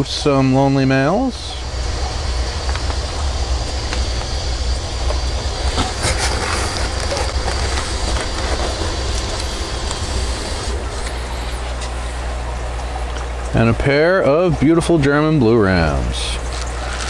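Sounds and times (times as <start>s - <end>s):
equipment hum and hiss: 0.0s - 17.0s.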